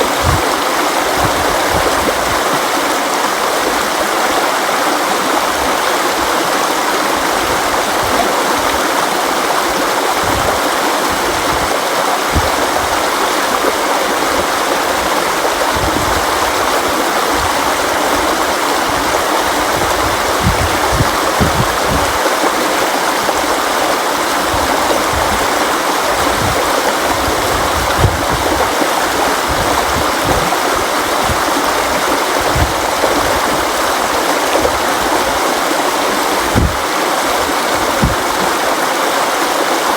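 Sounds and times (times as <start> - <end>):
low water gurgles and thumps: 0.0 - 39.9
river water rushing over rocks: 0.0 - 39.9.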